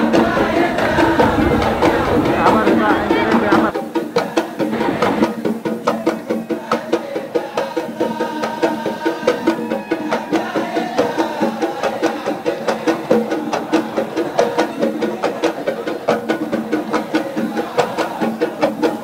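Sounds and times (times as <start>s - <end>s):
drums beating: 0.0s - 19.0s.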